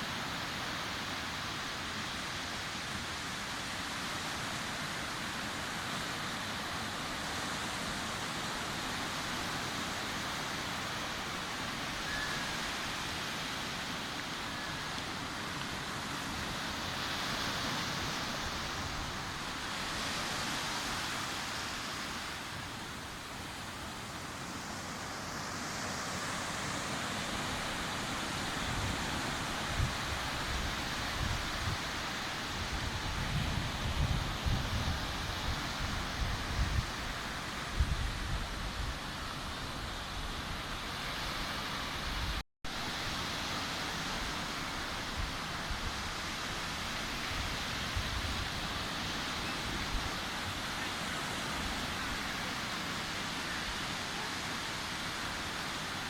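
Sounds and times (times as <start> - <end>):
waves breaking on a beach: 0.0 - 56.0.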